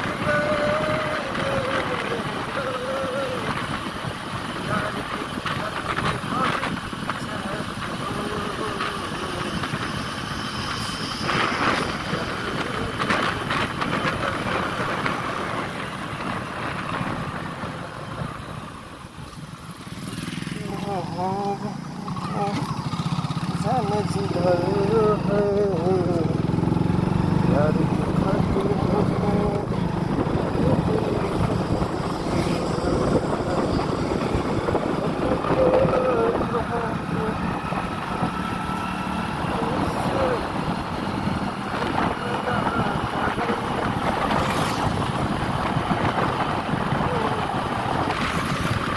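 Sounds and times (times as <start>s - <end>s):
wind noise: 0.0s - 19.3s, 23.6s - 48.9s
motorcycle engine running: 0.0s - 48.9s.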